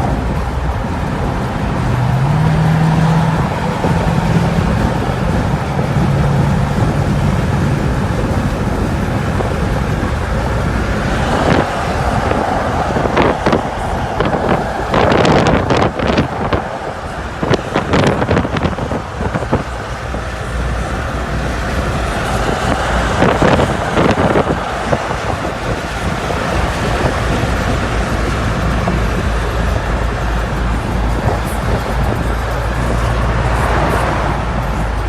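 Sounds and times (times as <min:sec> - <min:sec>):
car engine and road rumble: 0:00.0 - 0:35.0
wind noise: 0:00.0 - 0:35.0.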